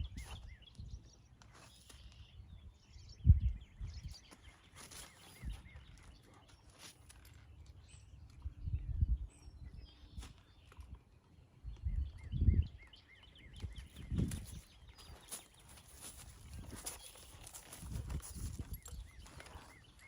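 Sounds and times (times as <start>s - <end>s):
birds chirping faintly: 0.0s - 20.0s.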